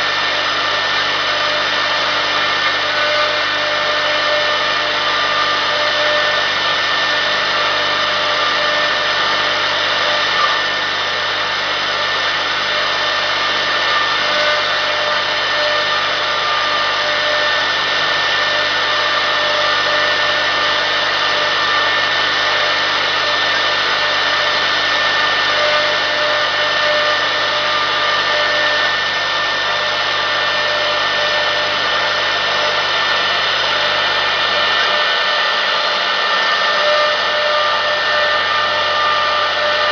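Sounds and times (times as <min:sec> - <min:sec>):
router machine noise: 0:00.0 - 0:39.9
spindle whine: 0:00.0 - 0:39.9.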